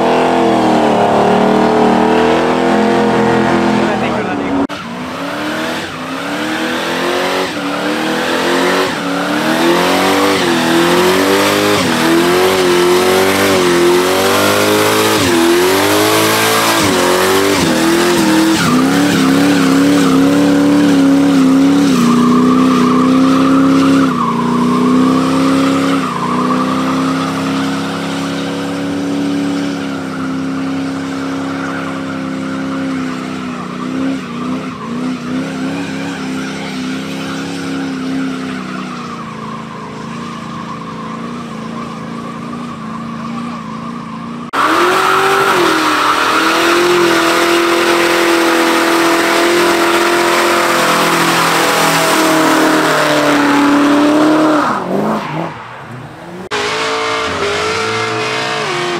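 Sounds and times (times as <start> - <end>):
car engine revving: 0.0 - 58.9
tyre squealing: 7.4 - 58.9.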